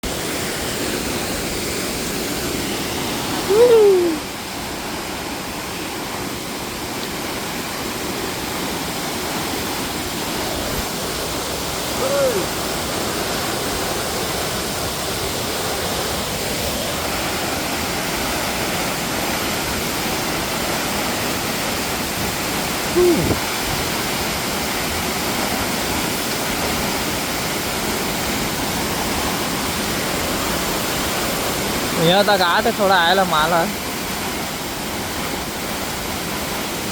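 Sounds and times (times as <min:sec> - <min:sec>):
waterfall roaring: 0:00.0 - 0:36.9.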